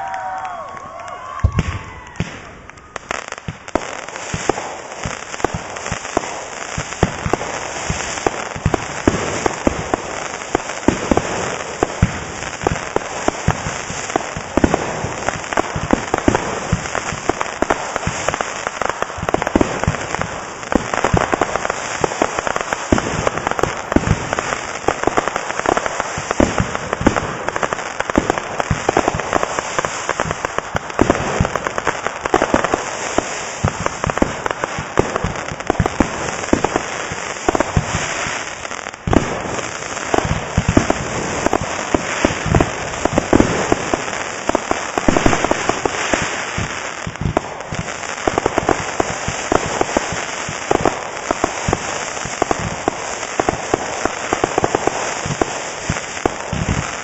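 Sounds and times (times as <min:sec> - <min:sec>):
fireworks bangs and pops: 0:00.0 - 0:57.0
fireworks crackle: 0:00.0 - 0:57.0.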